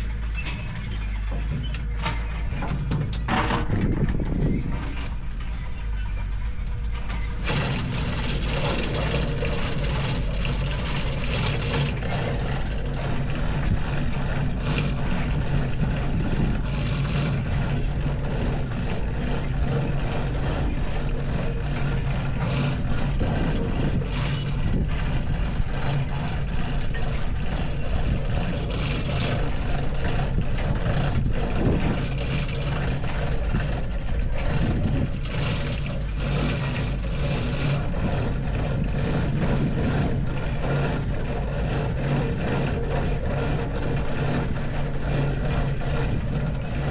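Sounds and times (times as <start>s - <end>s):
heavy engine running: 0.0s - 46.9s.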